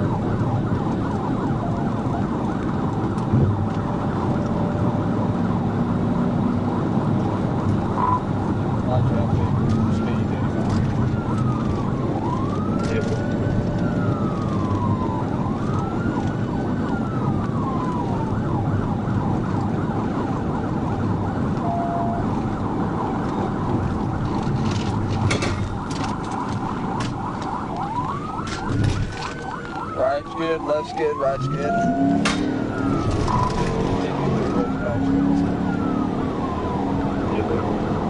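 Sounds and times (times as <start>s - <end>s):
car driving at highway speed: 0.0s - 38.0s
police siren wail and yelp: 0.0s - 38.0s.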